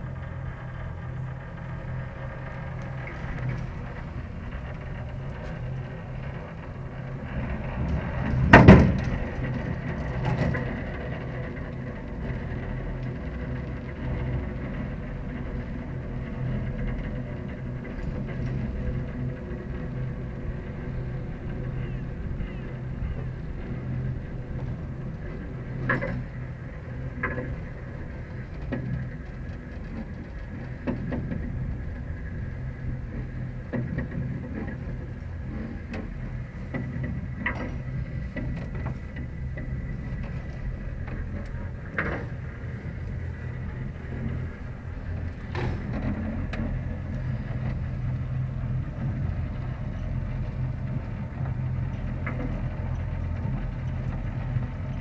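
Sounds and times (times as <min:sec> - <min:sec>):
cable car rumble and hum: 0:00.0 - 0:55.0
cable gear clicks and knocks: 0:02.3 - 0:48.4.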